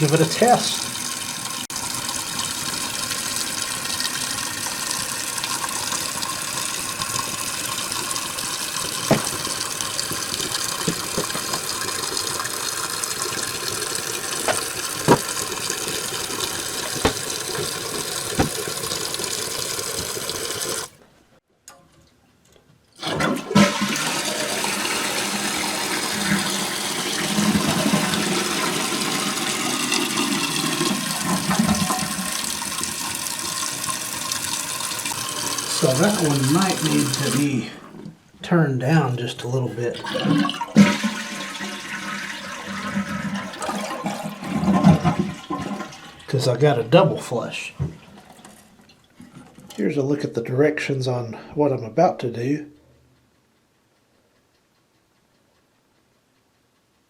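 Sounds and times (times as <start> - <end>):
toilet flushing and refilling: 0.0 - 21.0, 23.0 - 38.2, 39.1 - 50.2.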